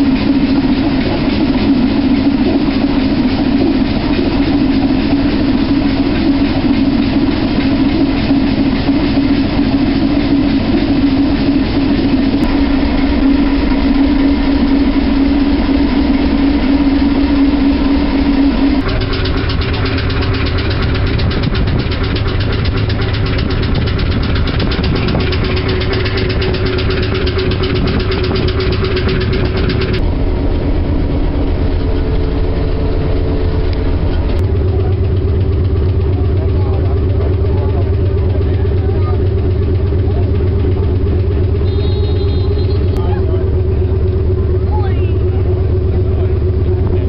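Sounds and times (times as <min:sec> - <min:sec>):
marine engine running: 0:00.0 - 0:47.0.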